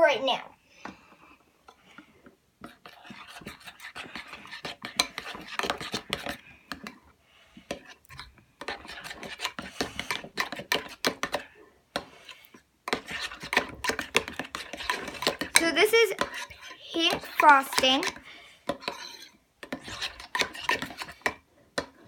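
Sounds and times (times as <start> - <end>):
utensil scraping bowl of slime: 1.7 - 22.0.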